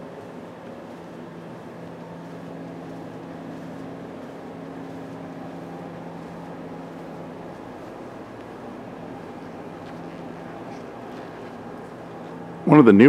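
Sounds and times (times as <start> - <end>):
exhibition hall background hum: 0.0 - 13.0.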